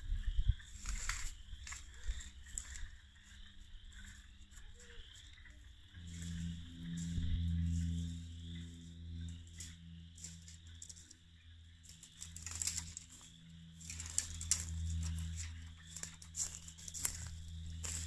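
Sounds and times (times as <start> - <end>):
steady low hum: 0.0 - 18.0
footsteps crunching dry leaves: 0.6 - 11.2, 11.8 - 18.0.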